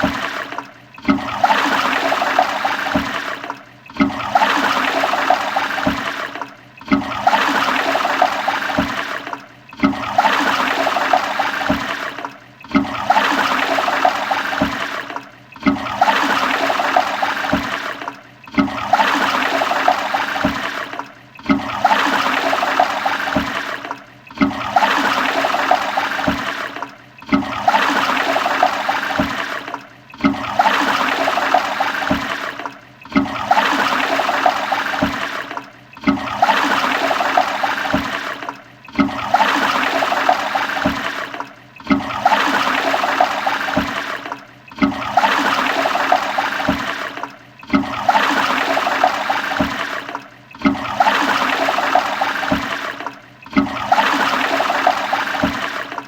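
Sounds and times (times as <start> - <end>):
toilet flushing: 0.0 - 56.0.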